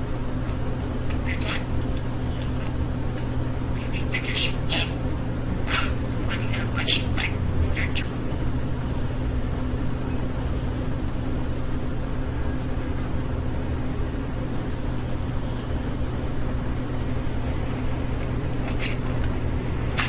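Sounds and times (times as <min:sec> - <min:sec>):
low hum with hiss: 0:00.0 - 0:20.0.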